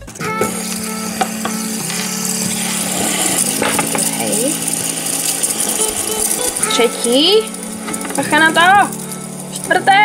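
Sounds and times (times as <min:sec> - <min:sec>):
fidget spinners whirring: 0:00.4 - 0:10.0.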